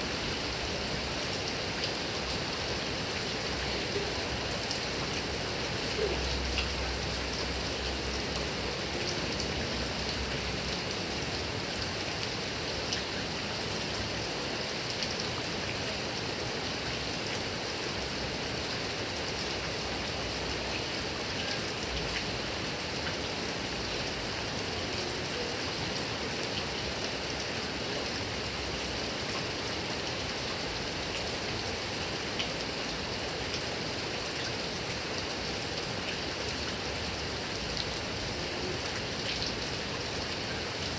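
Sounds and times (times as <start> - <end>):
heavy rain on grass and trees: 0.0 - 40.9.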